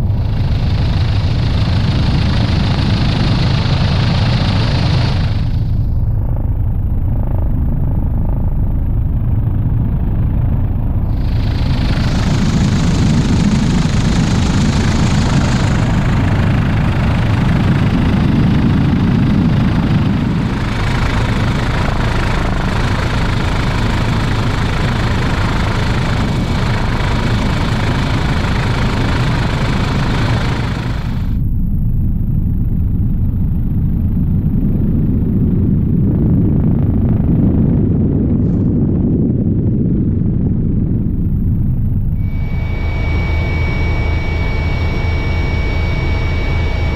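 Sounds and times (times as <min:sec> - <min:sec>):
helicopter rotor and engine rumble: 0:00.0 - 0:46.9.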